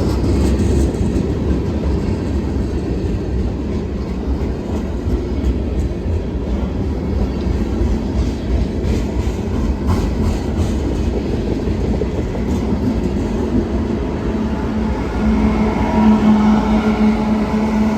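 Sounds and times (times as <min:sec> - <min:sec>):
train rumbling on track: 0:00.0 - 0:17.9.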